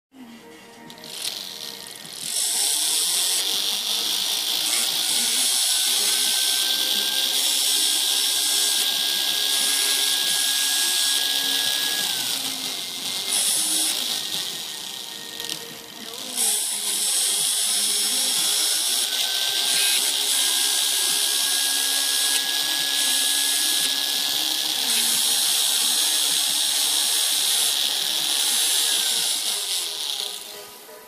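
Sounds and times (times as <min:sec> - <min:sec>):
high-pitched grinding hiss: 0:01.2 - 0:30.6.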